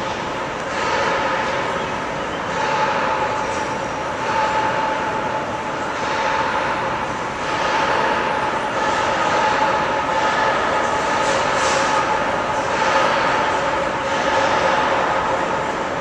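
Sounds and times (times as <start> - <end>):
city street noise: 0.0 - 16.0
mechanical drone with whine: 0.0 - 16.0.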